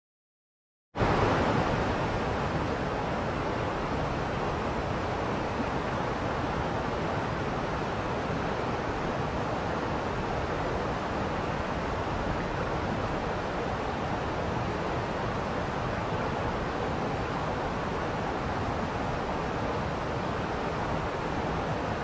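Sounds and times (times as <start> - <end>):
waterfall roaring: 1.0 - 22.0.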